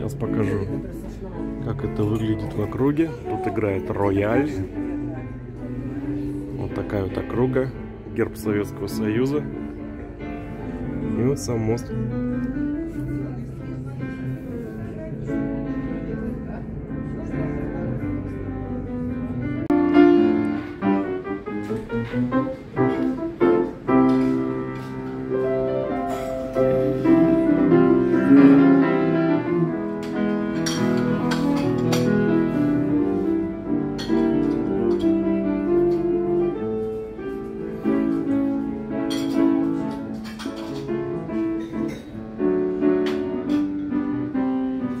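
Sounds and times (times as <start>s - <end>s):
grand piano melody: 0.0s - 45.0s.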